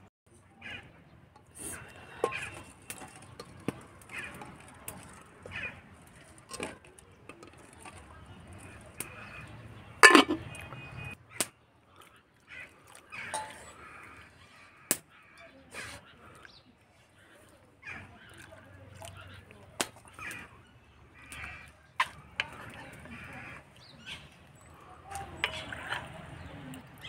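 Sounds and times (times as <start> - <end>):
birds calling: 0.5 - 27.0.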